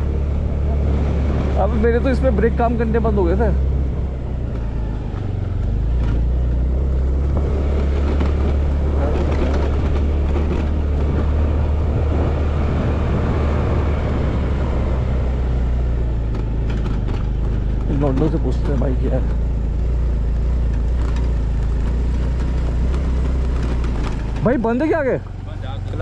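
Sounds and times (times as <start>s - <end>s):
motor scooter engine rumbling: 0.0s - 26.0s.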